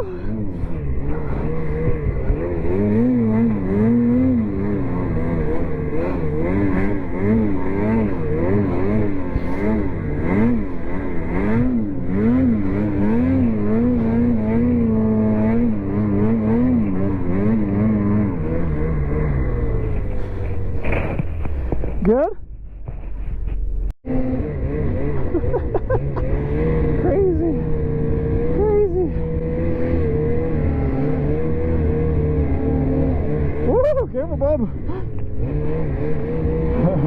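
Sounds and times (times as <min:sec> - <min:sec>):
snowmobile engine revving: 0:00.0 - 0:22.3, 0:24.1 - 0:37.0.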